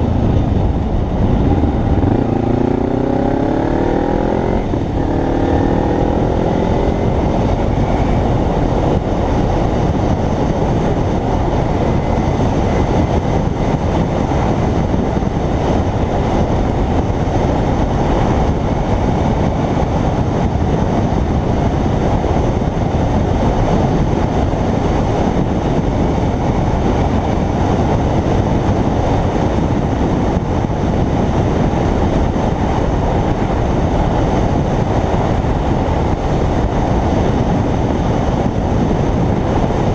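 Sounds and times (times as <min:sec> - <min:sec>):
motorcycle engine running: 0:00.0 - 0:39.9
wind roar on microphone: 0:00.0 - 0:39.9.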